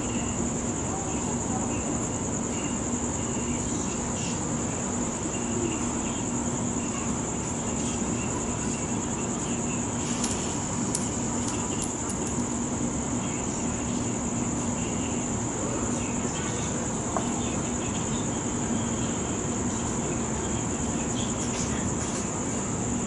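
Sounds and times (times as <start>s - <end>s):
crickets chirping: 0.0s - 23.0s
steady low hum: 0.0s - 23.0s.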